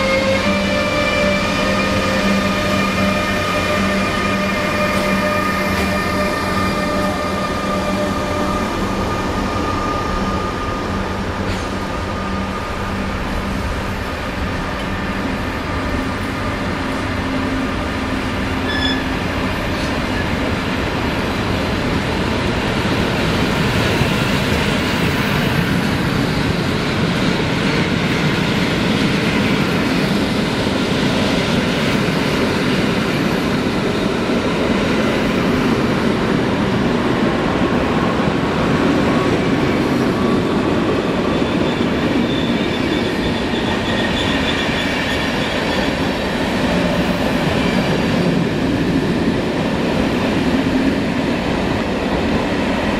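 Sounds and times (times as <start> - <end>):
electric locomotive converters whining: 0.0 - 52.9.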